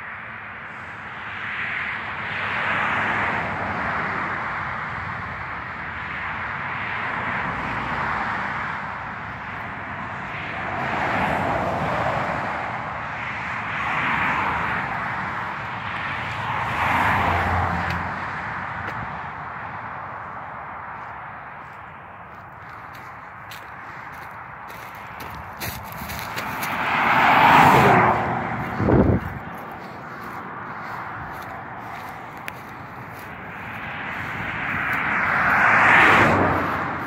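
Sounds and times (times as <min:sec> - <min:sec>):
rushing outdoor noise: 0:00.0 - 0:37.0.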